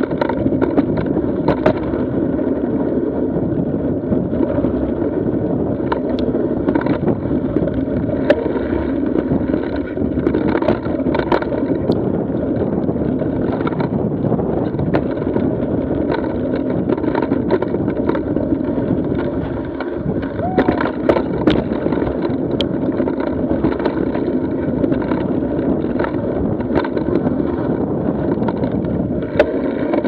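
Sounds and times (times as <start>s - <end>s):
bike clicks and rattles: 0.0s - 30.0s
tyres rumbling on dirt and gravel: 0.0s - 30.0s
wind on microphone: 0.0s - 30.0s.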